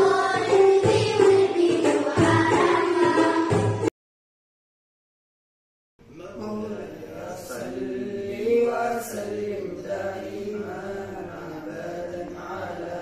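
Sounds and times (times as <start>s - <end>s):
boys singing together: 0.0s - 3.9s, 6.3s - 13.0s.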